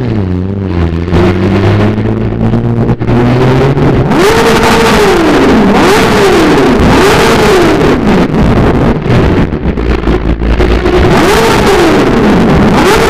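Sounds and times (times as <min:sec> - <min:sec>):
motorcycle engine revving in tunnel: 0:00.0 - 0:13.0.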